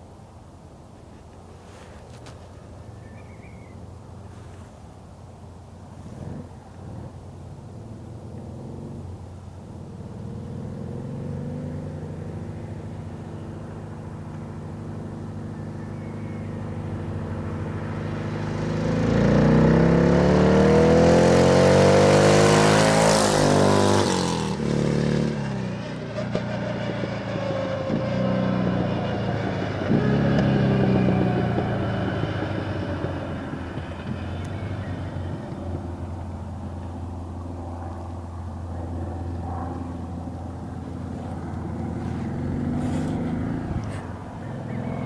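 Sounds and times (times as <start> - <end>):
car engine accelerating past: 6.0 - 45.0.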